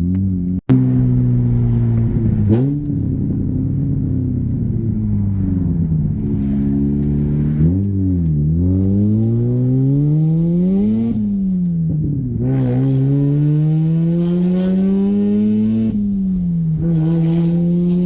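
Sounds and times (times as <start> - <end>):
rotary engine revving while driving: 0.0 - 18.0.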